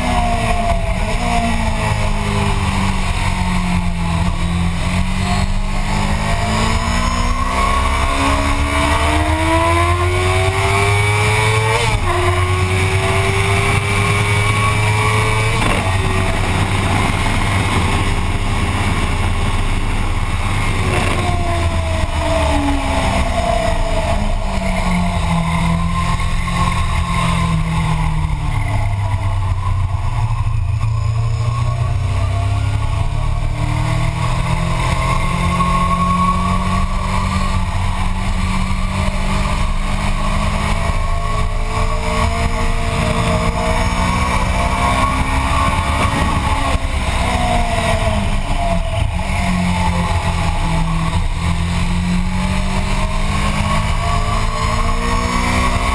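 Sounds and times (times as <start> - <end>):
motorcycle engine accelerating: 0.0 - 55.9
wind noise rumble: 0.0 - 55.9.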